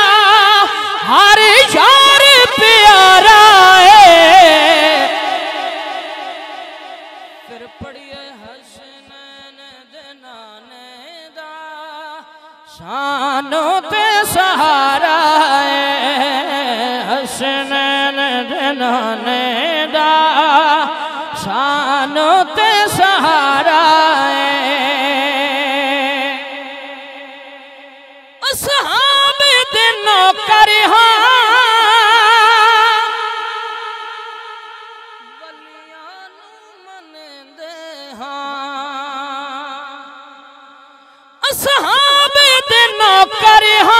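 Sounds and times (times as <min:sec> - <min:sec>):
man singing devotional song: 0:00.0 - 0:43.9.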